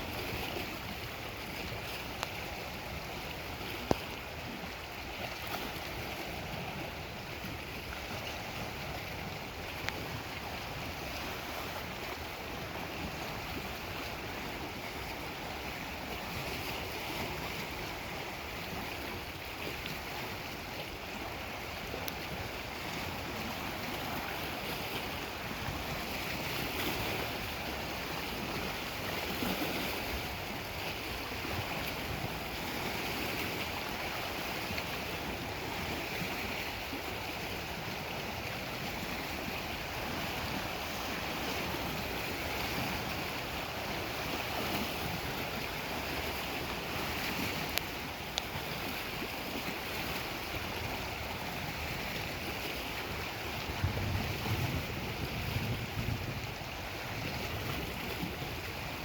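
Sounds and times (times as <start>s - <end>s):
waves washing against shore: 0.0s - 59.0s.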